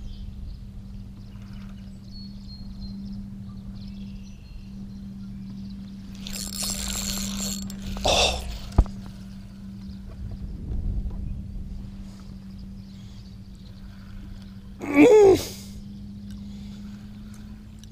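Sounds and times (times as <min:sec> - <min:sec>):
boat low hum: 0:00.0 - 0:17.9.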